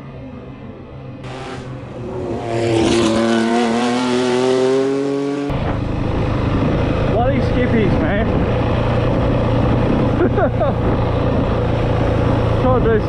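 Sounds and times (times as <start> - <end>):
dirt bike engine revving: 1.2 - 13.0.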